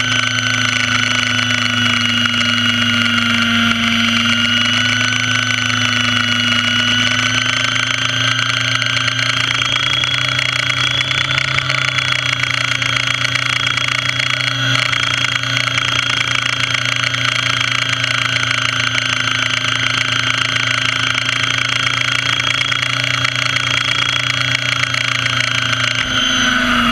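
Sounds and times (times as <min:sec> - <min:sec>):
model helicopter motor and rotor: 0:00.0 - 0:26.9.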